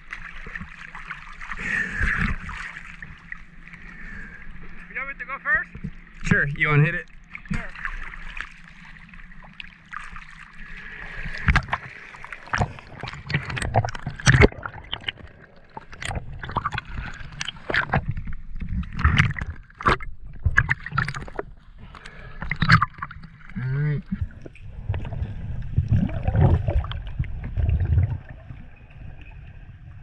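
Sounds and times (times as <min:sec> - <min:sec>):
underwater gurgling and bubbling: 0:00.0 - 0:04.9, 0:05.7 - 0:30.0
water sloshing and splashing: 0:00.0 - 0:30.0.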